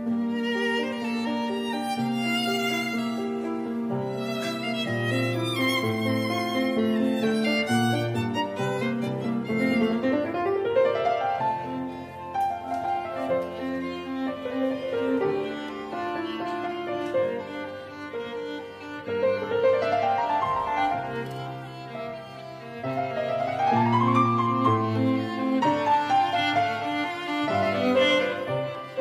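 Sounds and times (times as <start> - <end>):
bowed strings: 0.0 - 29.0
piano: 0.0 - 29.0.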